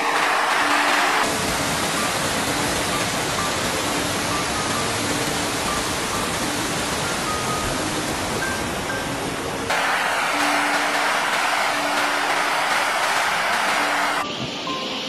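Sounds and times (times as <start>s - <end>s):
floodwater rushing: 0.0s - 14.2s.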